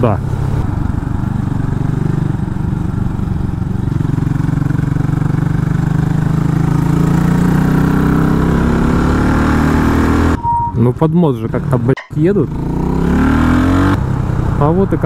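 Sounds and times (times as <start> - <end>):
motorcycle engine running: 0.2 - 10.4, 12.3 - 15.0.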